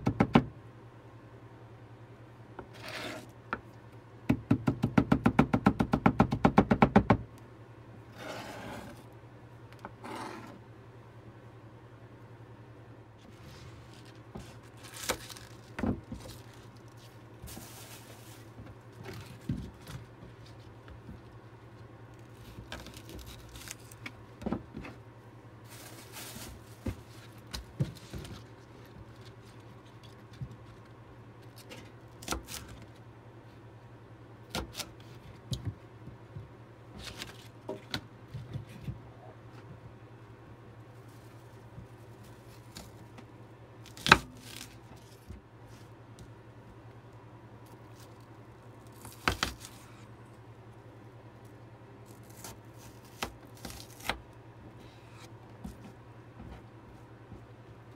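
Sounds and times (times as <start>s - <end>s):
steady low hum: 6.4s - 57.9s.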